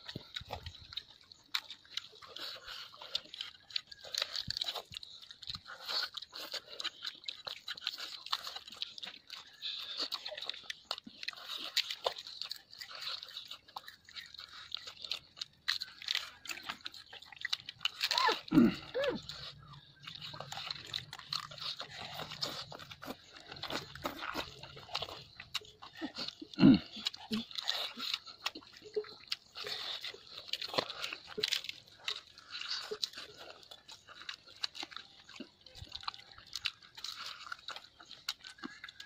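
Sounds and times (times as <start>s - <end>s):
chewing and mouth sounds: 0.0s - 39.0s.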